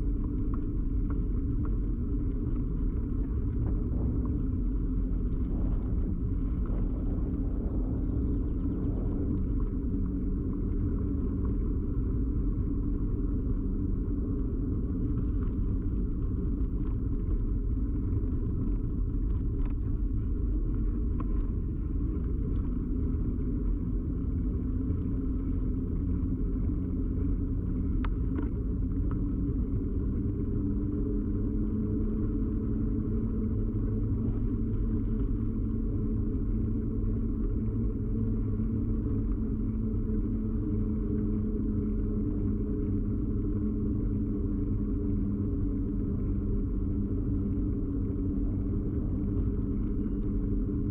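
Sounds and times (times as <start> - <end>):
bicycle tyre and frame rumble: 0.0 - 50.9.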